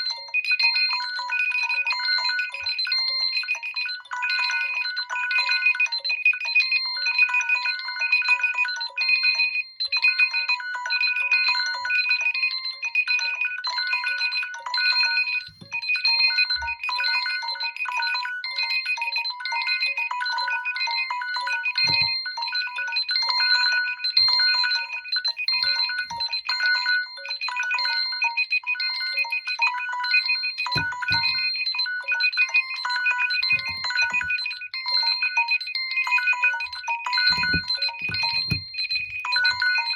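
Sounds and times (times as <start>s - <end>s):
phone ringtones and alarm beeps: 0.0s - 39.9s.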